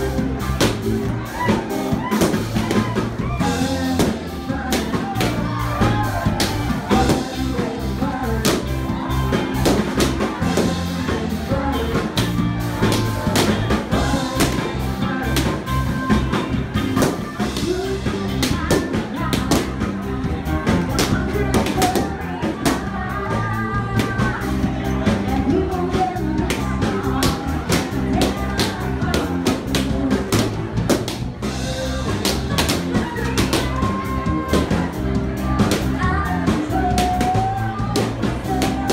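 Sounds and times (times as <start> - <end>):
drum kit beat: 0.0 - 38.9
live band playing pop-rock: 0.0 - 38.9
woman singing: 2.7 - 30.6, 31.7 - 38.9.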